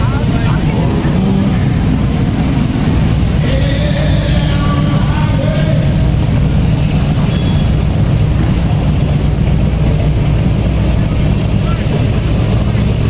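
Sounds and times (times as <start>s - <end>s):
faint voices: 0.0s - 13.0s
race car engine running: 0.0s - 13.0s.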